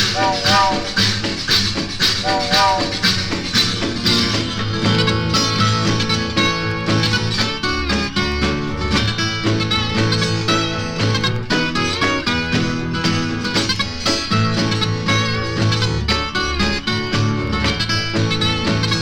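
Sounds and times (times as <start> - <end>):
plucked guitar lead: 0.0 - 19.0
rhythm backing beat: 0.0 - 19.0.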